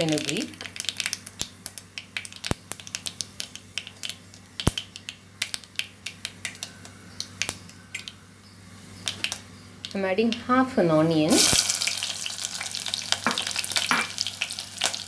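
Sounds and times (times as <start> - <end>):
spices popping in hot oil: 0.0 - 8.2, 9.0 - 10.5, 11.3 - 15.0.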